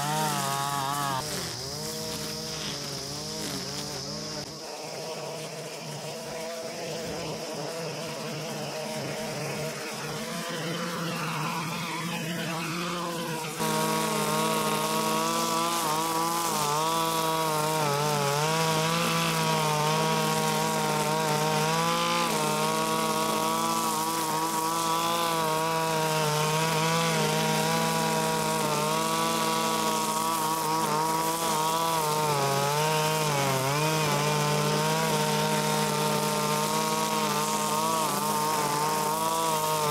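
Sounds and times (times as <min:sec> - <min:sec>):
brush cutter engine at high revs: 0:00.0 - 0:39.9
cutter head cutting grass: 0:00.0 - 0:39.9.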